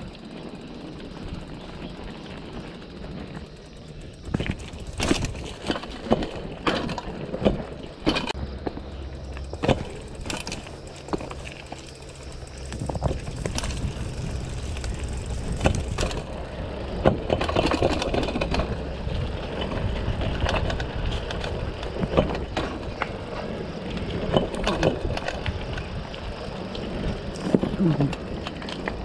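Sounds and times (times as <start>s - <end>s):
bike knocks and rattles: 0.0s - 29.0s
bike tyres rumbling on stones: 0.0s - 29.0s.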